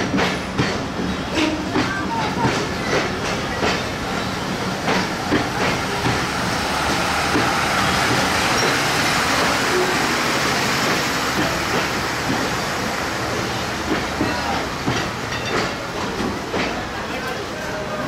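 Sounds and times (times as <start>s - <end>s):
train wheels clicking over rail joints: 0.0s - 17.9s
train running gear hissing: 0.0s - 18.0s.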